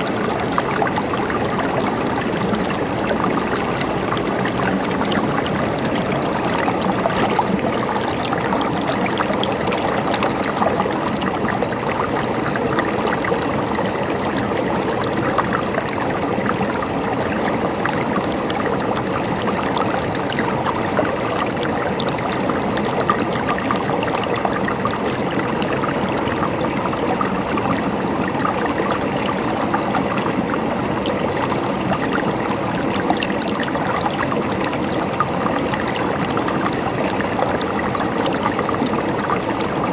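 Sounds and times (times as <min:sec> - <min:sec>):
stream water bubbling and splashing: 0:00.0 - 0:39.9.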